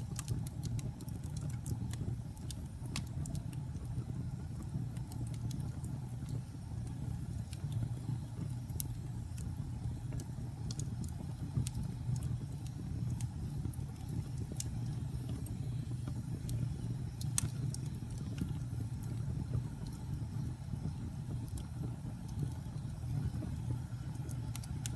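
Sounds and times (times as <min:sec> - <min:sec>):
fire crackling and popping: 0:00.0 - 0:24.9
low noise of flames: 0:00.0 - 0:24.9.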